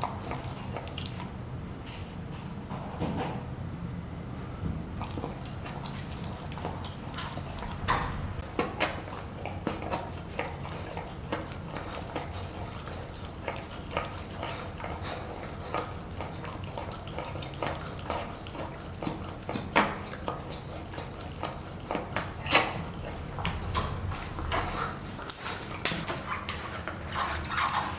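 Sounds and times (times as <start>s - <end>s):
puppy licking and chewing toy: 0.0s - 1.4s, 5.0s - 27.9s.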